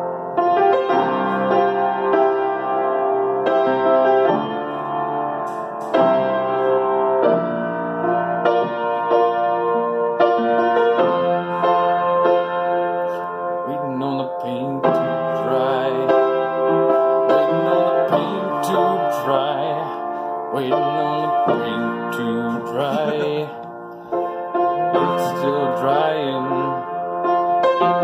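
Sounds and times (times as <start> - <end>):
upright piano chords and melody: 0.0 - 28.0.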